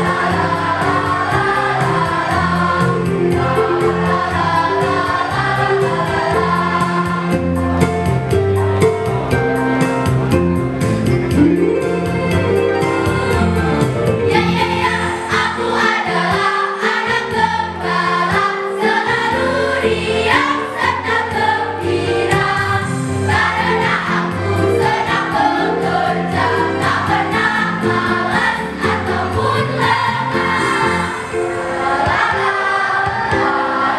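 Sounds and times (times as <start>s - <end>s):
choir singing in parts: 0.0s - 7.6s, 13.0s - 33.9s
instrumental accompaniment: 0.0s - 33.9s.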